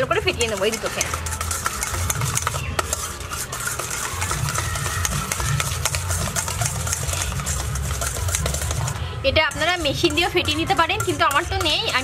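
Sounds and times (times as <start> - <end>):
whisk clicking in steel bowl: 0.0 - 12.0.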